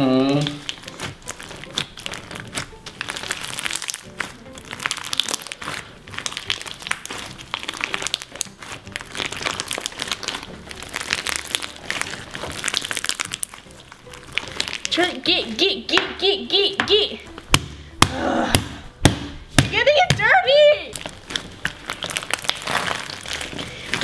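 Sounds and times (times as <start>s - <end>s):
slime crunching and crackling: 0.0s - 15.5s, 17.3s - 24.0s
music: 0.0s - 24.0s.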